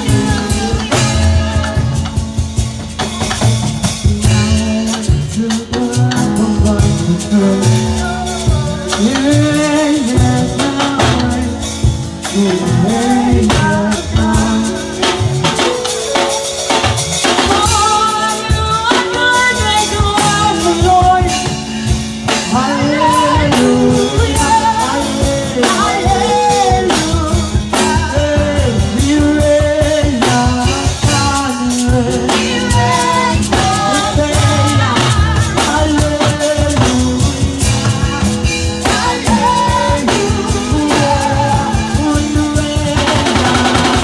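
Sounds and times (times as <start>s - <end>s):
backing singers: 0.0s - 2.5s, 4.1s - 16.5s, 22.2s - 44.0s
woman singing lead: 0.0s - 2.6s, 3.9s - 16.4s, 17.2s - 44.0s
drum kit beat: 0.0s - 44.0s
keyboard: 0.0s - 44.0s.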